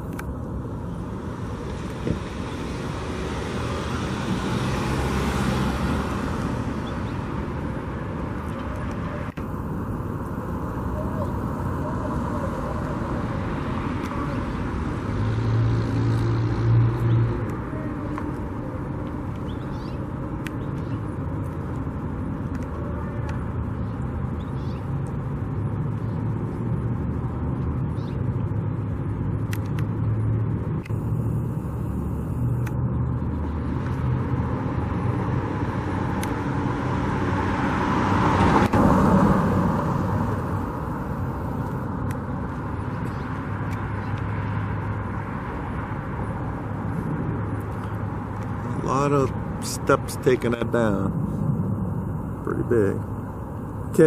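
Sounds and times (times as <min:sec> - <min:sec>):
vehicle passing loudly: 0:00.0 - 0:20.3, 0:26.6 - 0:54.0
traffic rumble: 0:00.0 - 0:54.0.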